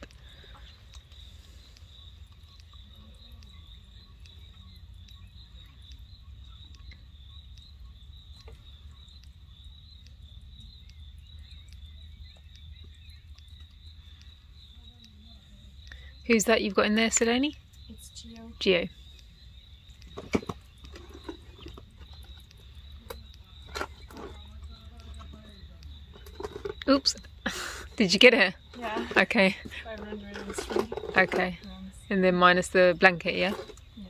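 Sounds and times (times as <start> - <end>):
faint clicks: 0.0 - 31.8
insects chirping trill: 0.0 - 34.0.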